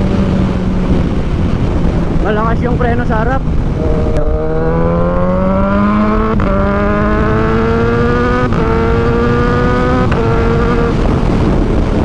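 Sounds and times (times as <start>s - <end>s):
motorcycle accelerating: 0.0s - 12.0s.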